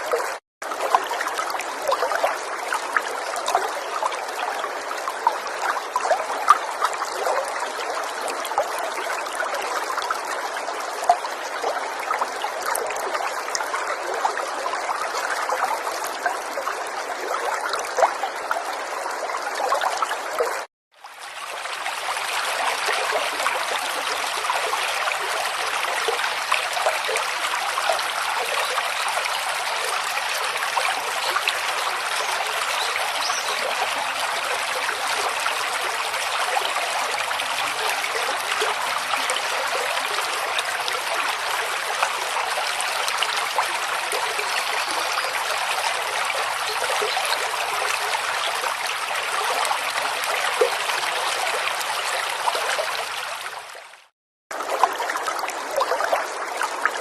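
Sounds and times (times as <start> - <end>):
river water over stones: 0.0 - 57.0
small water splashes: 0.0 - 57.0.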